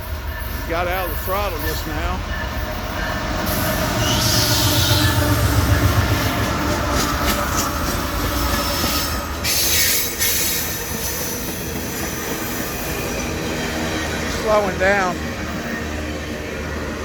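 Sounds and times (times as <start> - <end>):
steel wheels squealing on rails: 0.0 - 17.0.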